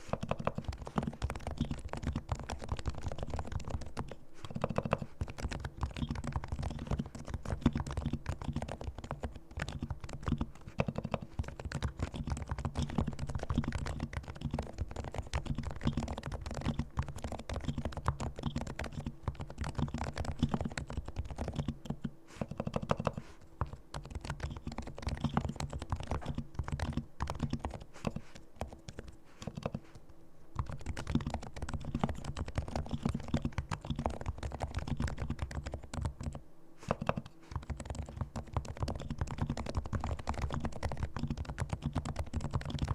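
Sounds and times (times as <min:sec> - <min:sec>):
fast typing on keyboard: 0:00.0 - 0:29.8, 0:30.6 - 0:42.9.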